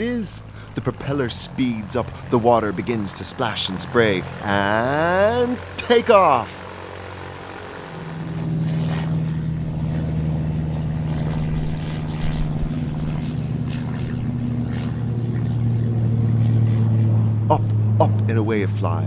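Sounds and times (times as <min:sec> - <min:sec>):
propeller engine droning: 0:00.0 - 0:19.0.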